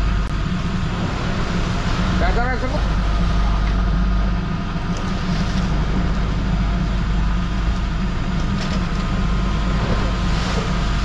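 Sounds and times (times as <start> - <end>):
boat machinery drone: 0.0 - 11.0.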